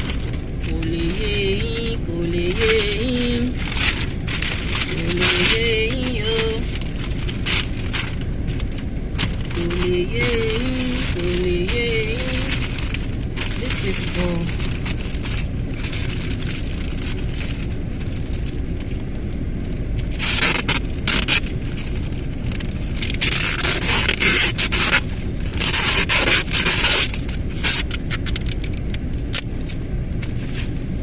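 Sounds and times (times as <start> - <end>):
wrapping paper crinkling and tearing: 0.0 - 19.2, 19.8 - 31.0
car heater rumble: 0.0 - 31.0.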